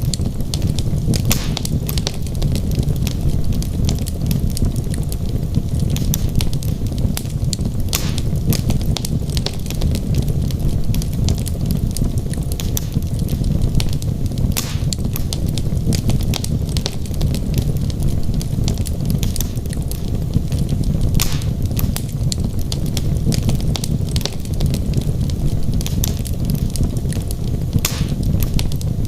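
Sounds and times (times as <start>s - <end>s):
burning wood pops: 0.0s - 29.0s
fire crackling and snapping: 0.0s - 29.0s
low rumble of flame: 0.0s - 29.0s.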